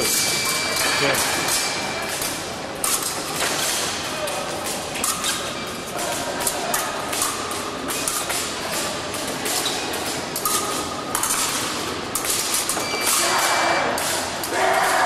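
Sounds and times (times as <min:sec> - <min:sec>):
fencing blades clacking: 0:00.0 - 0:15.0
sports hall noise: 0:00.0 - 0:15.0.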